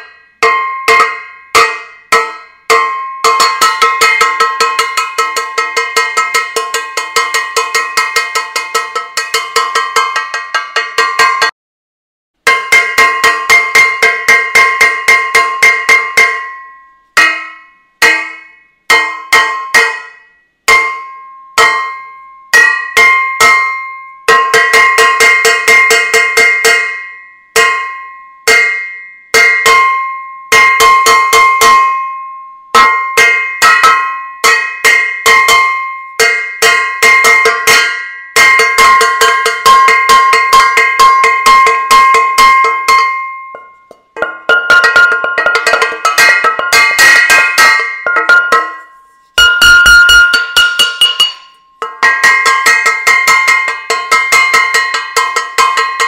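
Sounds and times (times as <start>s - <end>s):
metal saucepan being beaten: 0.0s - 11.5s, 12.4s - 56.0s.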